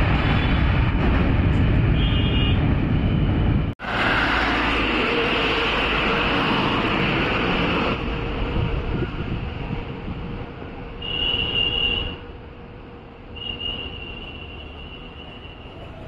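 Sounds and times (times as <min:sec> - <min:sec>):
train rumbling over bridge: 0:00.0 - 0:16.0.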